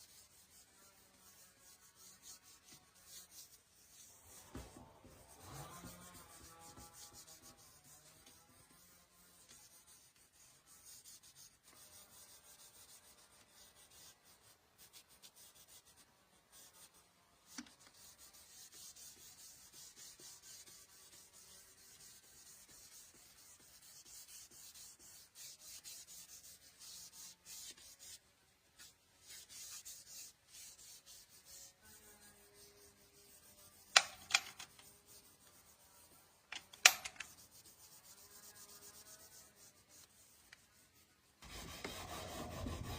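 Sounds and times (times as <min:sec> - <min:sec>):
hand rubbing wood: 0:00.0 - 0:42.9.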